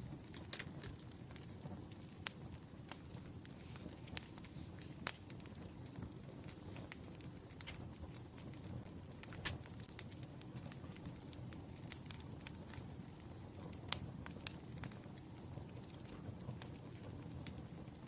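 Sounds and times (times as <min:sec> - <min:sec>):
low fire hiss: 0:00.0 - 0:18.0
wood fire crackling: 0:00.0 - 0:18.0.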